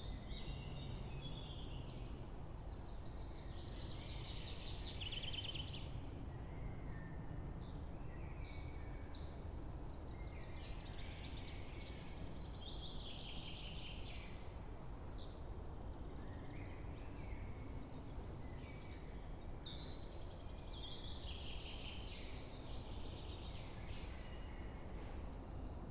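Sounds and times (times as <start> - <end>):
songbirds singing: 0.0 - 25.9.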